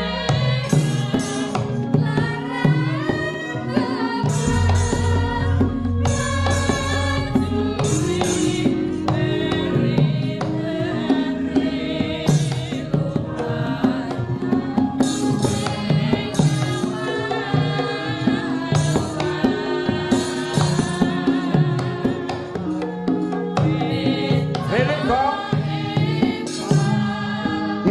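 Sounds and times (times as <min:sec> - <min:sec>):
hand drum strokes: 0:00.0 - 0:27.9
voices singing: 0:00.0 - 0:27.9.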